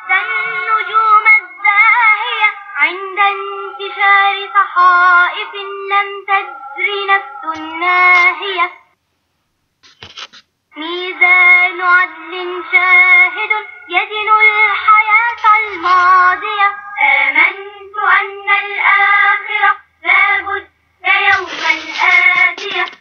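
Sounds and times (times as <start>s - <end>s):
children singing: 0.0s - 8.8s, 10.8s - 23.0s.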